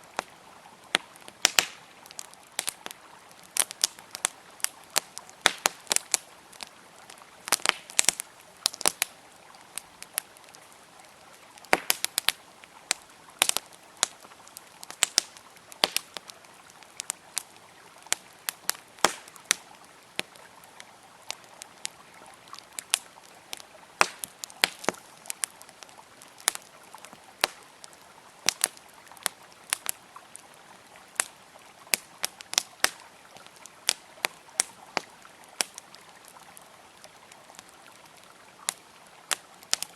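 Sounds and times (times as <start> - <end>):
campfire crackling and popping: 0.0 - 39.9
flowing river water: 0.0 - 39.9.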